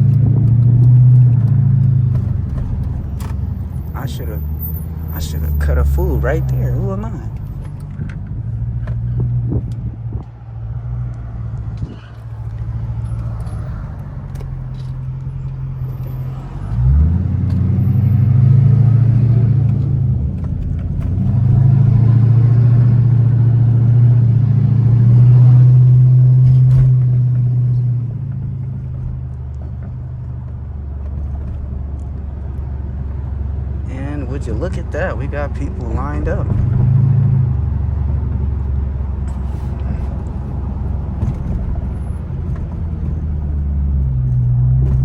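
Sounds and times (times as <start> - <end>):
car engine droning: 0.0 - 45.0.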